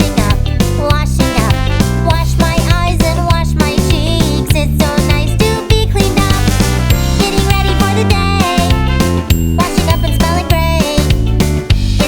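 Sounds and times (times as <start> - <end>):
upbeat children's song: 0.0 - 12.0.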